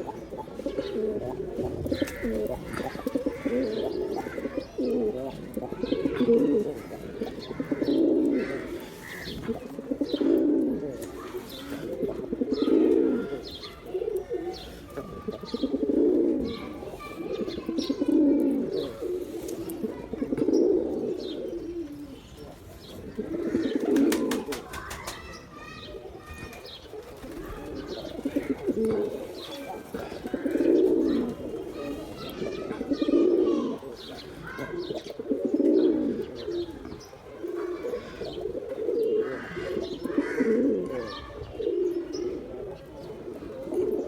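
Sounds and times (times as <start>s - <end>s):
pigeons cooing: 0.0s - 44.0s.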